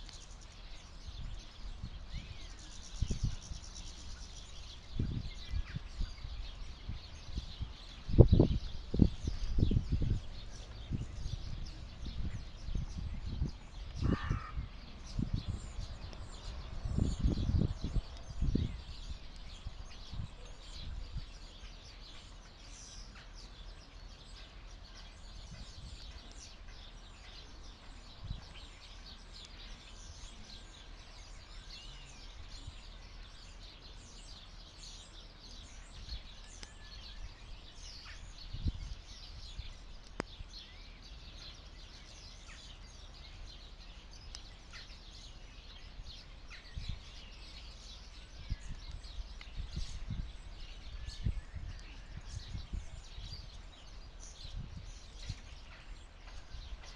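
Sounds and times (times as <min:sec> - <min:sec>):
songbirds chirping and twittering: 0:00.0 - 0:56.9.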